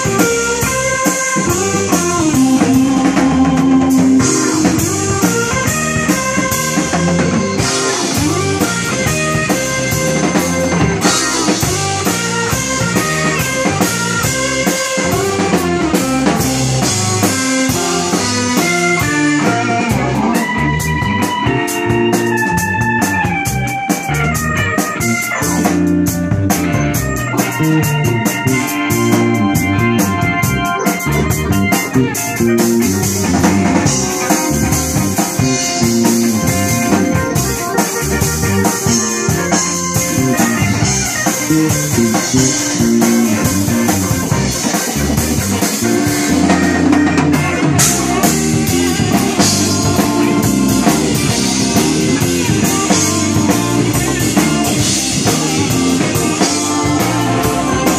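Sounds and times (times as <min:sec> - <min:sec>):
blues-rock band playing: 0:00.0 - 0:57.9
drum kit steady beat: 0:00.0 - 0:57.9.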